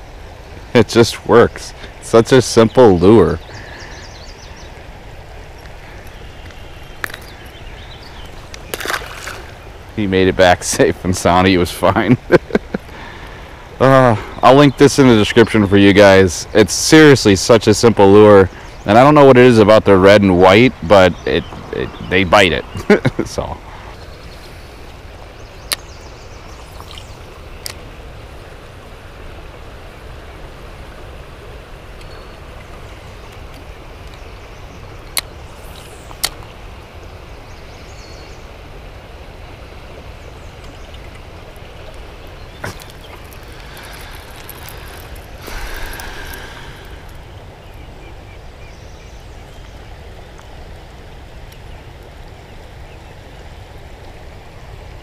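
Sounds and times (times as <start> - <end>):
river water flowing: 0.0 - 55.0
rush of water noise: 0.0 - 55.0.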